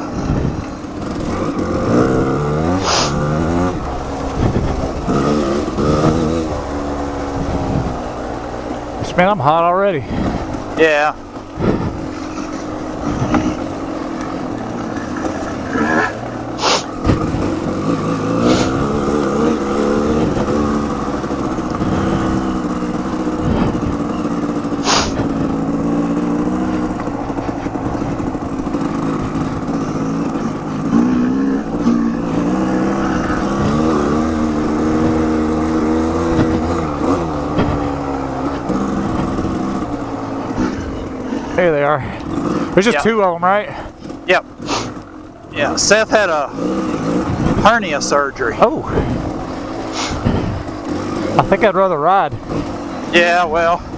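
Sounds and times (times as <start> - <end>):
off-road motorcycle engines: 0.0 - 53.9.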